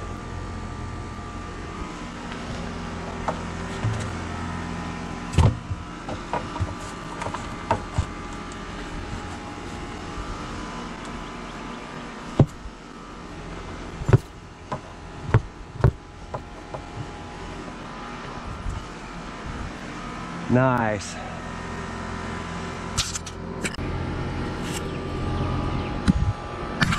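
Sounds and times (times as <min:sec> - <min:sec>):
machine hum: 0:00.0 - 0:26.9.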